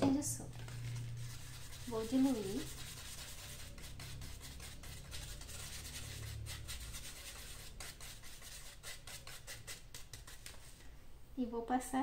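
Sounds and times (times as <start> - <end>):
paintbrush scratching in tray: 0.5 - 10.8.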